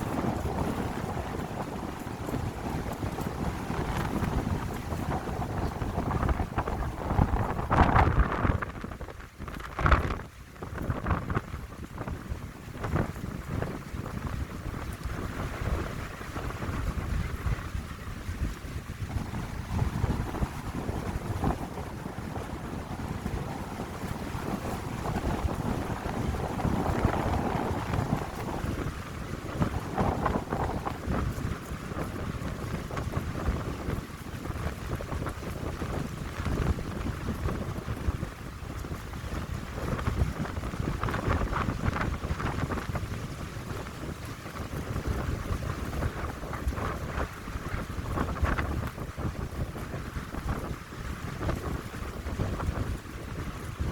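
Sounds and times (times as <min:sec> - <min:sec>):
wind buffeting microphone: 0:00.0 - 0:53.9
wind gusting through pine trees: 0:00.0 - 0:53.9.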